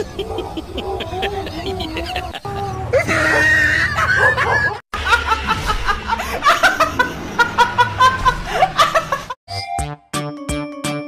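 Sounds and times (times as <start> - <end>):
woman laughing hard: 0.0 - 9.4.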